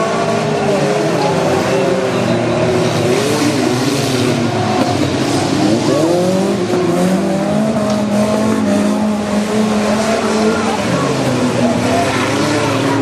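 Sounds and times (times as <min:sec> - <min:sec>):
small racing car engines: 0:00.0 - 0:13.0.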